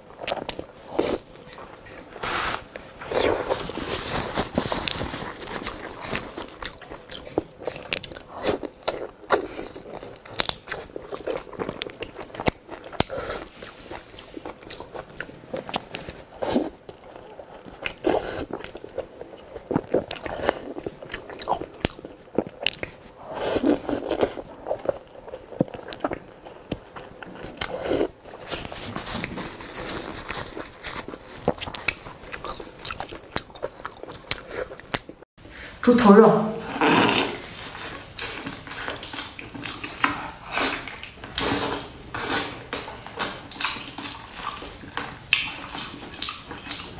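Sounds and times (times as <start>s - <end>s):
person crunching and chewing: 0.1s - 35.3s, 36.7s - 46.9s.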